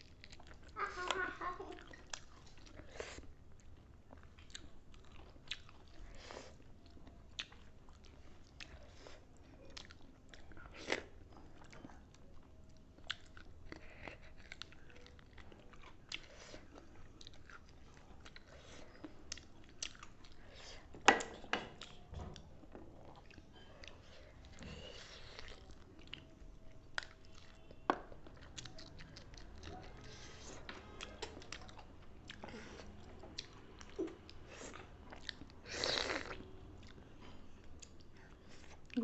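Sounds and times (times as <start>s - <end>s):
mouth chewing food: 0.0s - 39.0s.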